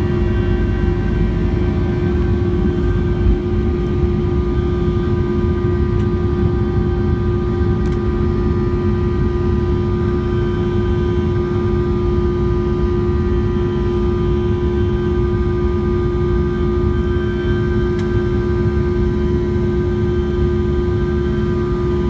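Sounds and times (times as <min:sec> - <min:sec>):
high whining engine fan tones: 0:00.0 - 0:22.0
jet engine rumble in cabin: 0:00.0 - 0:22.0.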